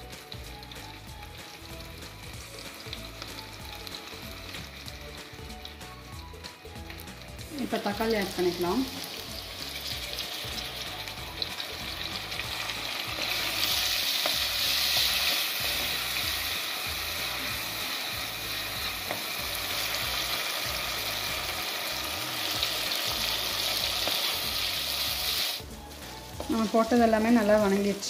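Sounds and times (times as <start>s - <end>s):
tomatoes sizzling in hot oil: 0.0s - 28.0s.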